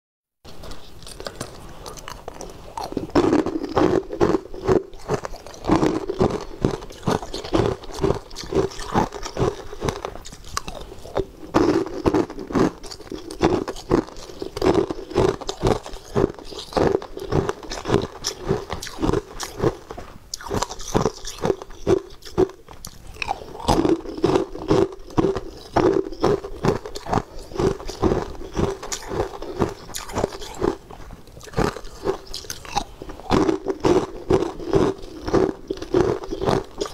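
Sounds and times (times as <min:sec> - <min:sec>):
crunching and chewing ice: 0:00.5 - 0:36.9.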